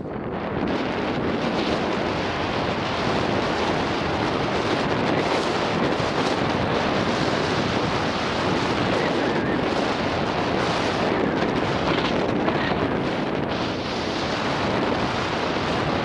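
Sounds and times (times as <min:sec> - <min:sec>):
bike rolling on trail: 0:00.0 - 0:16.0
wind buffeting microphone: 0:00.0 - 0:16.0.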